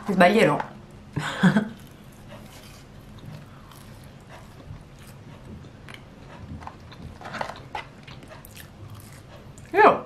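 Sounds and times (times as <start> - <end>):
person chewing fries: 1.5 - 9.8.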